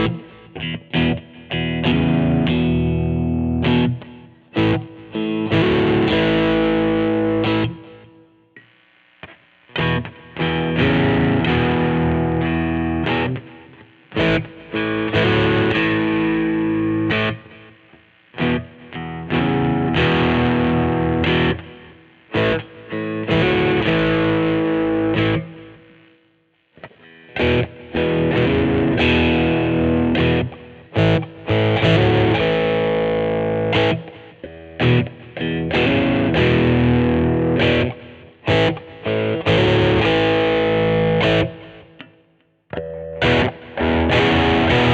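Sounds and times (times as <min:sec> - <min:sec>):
distorted electric guitar chords: 0:00.0 - 0:44.9.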